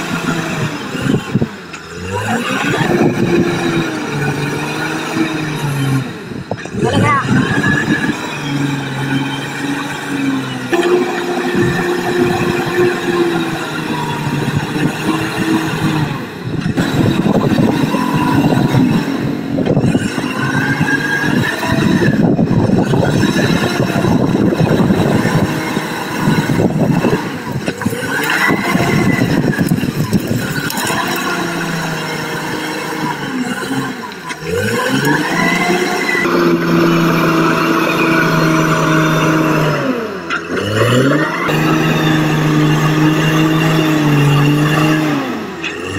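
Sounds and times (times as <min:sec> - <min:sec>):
bulldozer diesel engine under load: 0:00.0 - 0:45.9.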